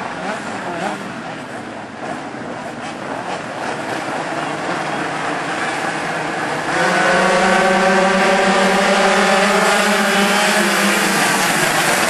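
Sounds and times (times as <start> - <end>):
two-stroke engines revving: 0.0 - 12.0.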